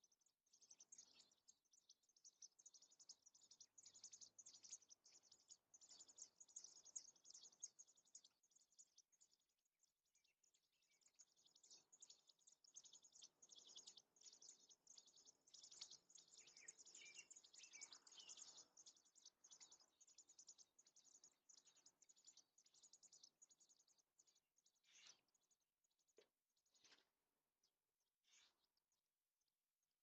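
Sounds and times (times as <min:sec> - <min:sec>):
birds chirping: 0:00.0 - 0:09.4, 0:10.1 - 0:27.0.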